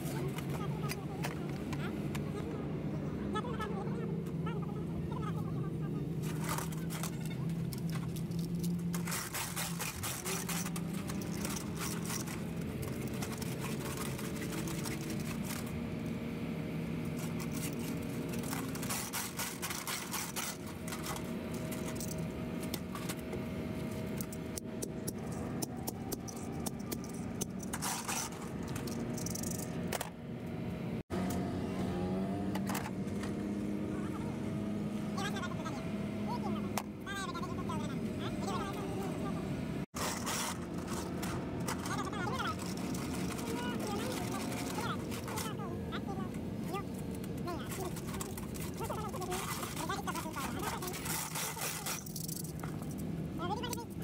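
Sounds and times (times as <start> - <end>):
engine hum: 0.0 - 54.0.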